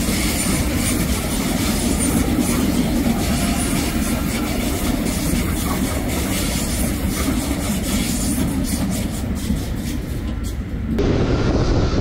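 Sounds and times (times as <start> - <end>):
train wheels rumbling and clacking: 0.0 - 12.0.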